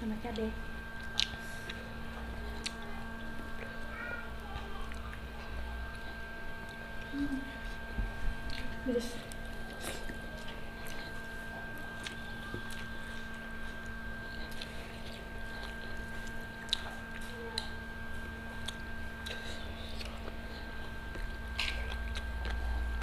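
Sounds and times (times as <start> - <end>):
steady hum: 0.0 - 23.0
chewing: 0.3 - 23.0.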